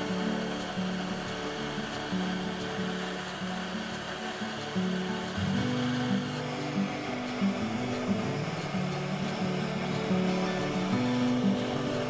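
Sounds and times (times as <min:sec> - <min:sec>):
music of held notes: 0:00.0 - 0:12.0
steady hiss: 0:00.0 - 0:12.0.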